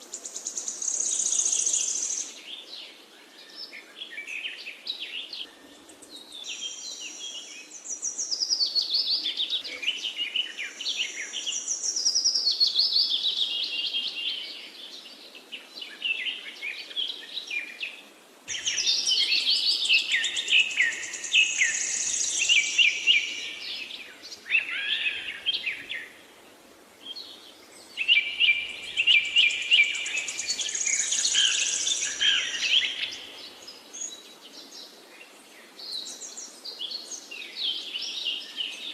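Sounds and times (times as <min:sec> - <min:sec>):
flock of small birds chirping: 0:00.1 - 0:26.2, 0:27.0 - 0:38.9.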